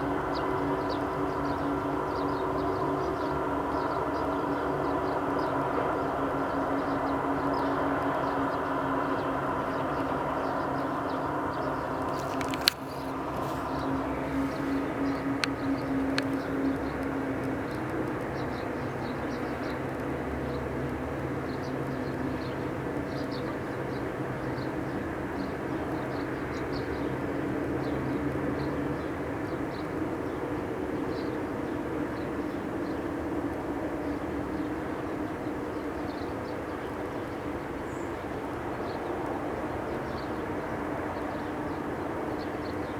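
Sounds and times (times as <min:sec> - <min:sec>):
outdoor droning hum: 0:00.0 - 0:42.9.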